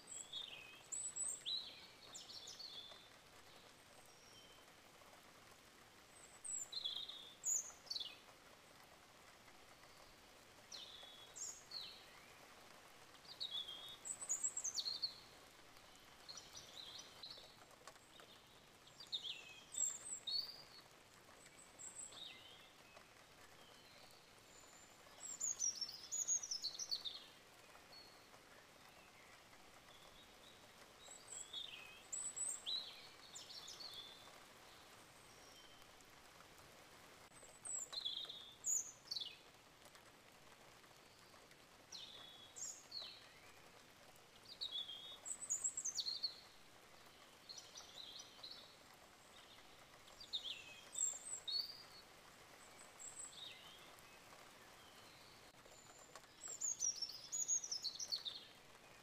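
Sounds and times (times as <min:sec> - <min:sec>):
birds chirping faintly: 0:00.0 - 0:59.0
steady soft hiss: 0:00.0 - 0:59.0.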